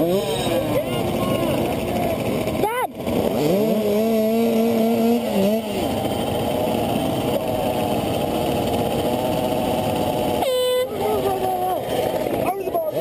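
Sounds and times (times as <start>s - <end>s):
engine revving high: 0.0s - 13.0s
minibike engines running: 0.0s - 13.0s.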